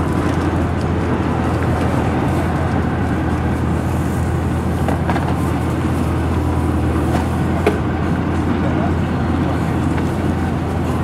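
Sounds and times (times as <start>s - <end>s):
jet airliner engine roar: 0.0s - 11.0s.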